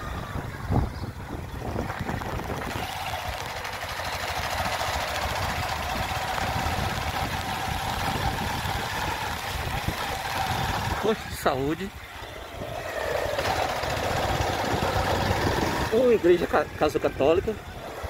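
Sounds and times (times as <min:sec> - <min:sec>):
mid-pitched hum: 0:00.0 - 0:18.0
vehicle engine running: 0:00.0 - 0:18.0.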